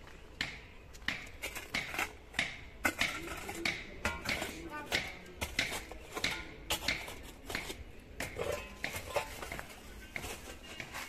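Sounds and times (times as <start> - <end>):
metal tool striking stony soil: 0.4 - 11.0.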